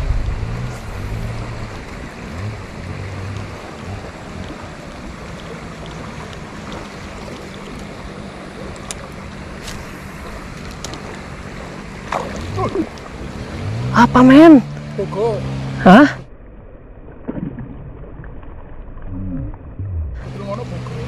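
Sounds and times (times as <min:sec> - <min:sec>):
river flowing: 0:00.0 - 0:17.2, 0:17.8 - 0:21.0.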